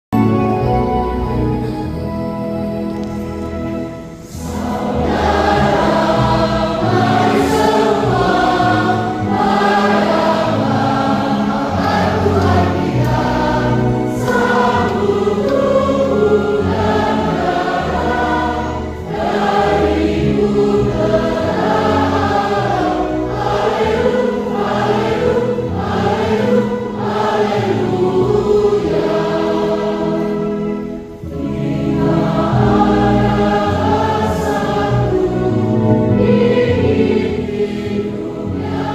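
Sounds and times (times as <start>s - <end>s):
instrumental accompaniment with bass: 0.1s - 38.9s
children's choir singing a hymn: 0.2s - 38.9s.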